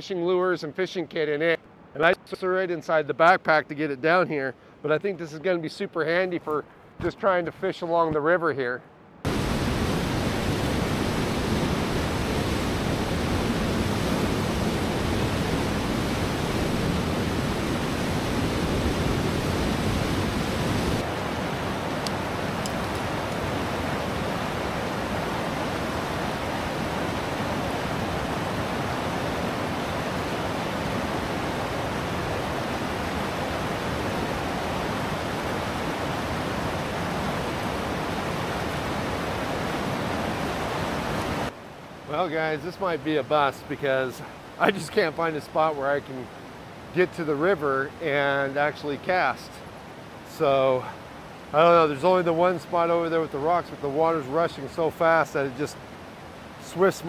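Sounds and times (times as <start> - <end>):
river rushing over rapids: 9.3 - 57.0.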